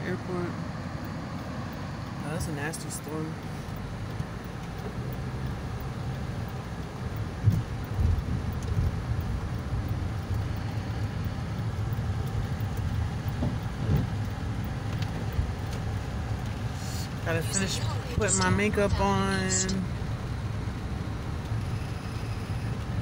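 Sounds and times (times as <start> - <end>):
road rumble and tyre noise: 0.0 - 23.0
rain hitting windshield: 0.1 - 23.0.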